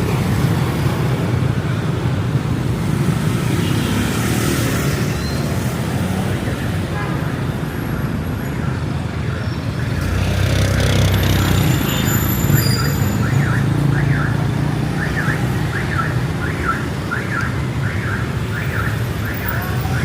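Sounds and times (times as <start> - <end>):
busy street traffic: 0.0 - 20.0.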